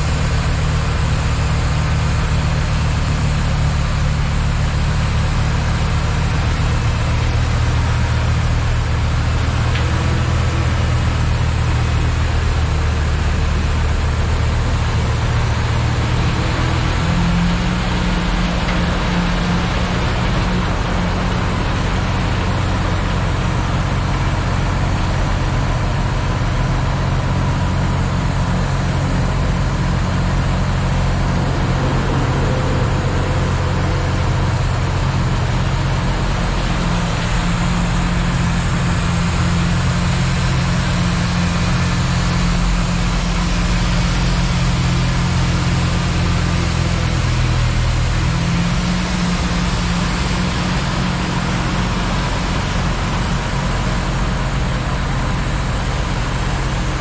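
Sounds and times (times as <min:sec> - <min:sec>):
continuous rushing noise: 0:00.0 - 0:57.0
heavy diesel engines droning: 0:00.0 - 0:57.0.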